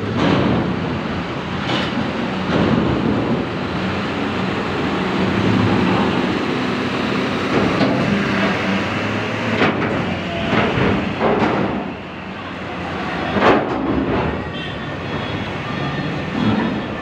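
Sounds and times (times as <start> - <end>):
engines rumbling: 0.0 - 17.0.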